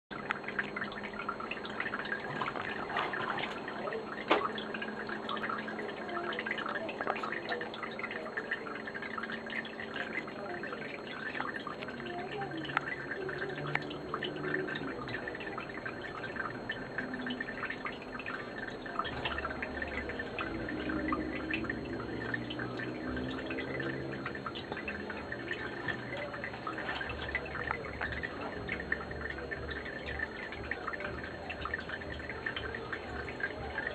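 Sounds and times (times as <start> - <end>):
faint steady hum: 0.1 - 33.9
water dripping and trickling: 0.1 - 33.9.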